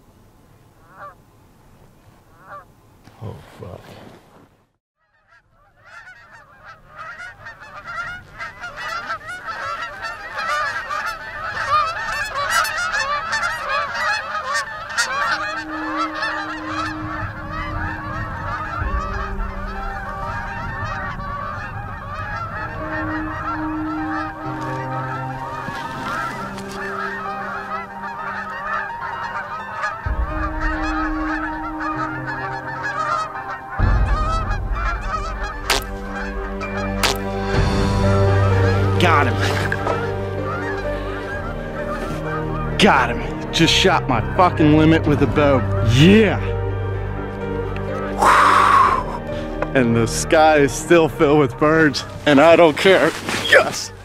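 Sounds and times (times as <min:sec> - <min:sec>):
geese honking: 0:00.7 - 0:01.2, 0:02.2 - 0:04.1, 0:05.0 - 0:54.0.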